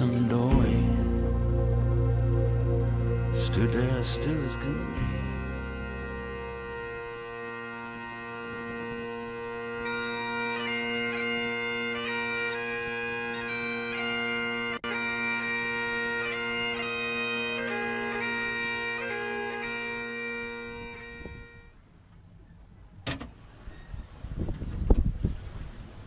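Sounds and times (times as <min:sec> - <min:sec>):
bagpipe music: 0:00.0 - 0:21.8.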